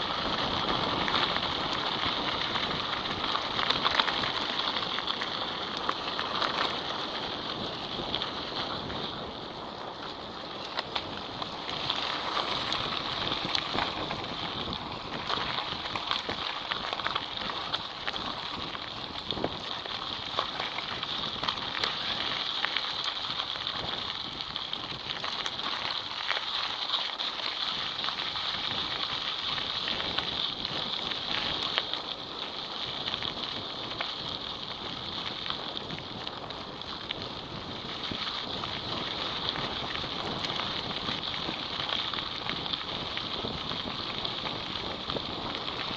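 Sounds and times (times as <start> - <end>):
bike tyres crunching over gravel: 0.0 - 45.9
wind noise: 0.0 - 45.9.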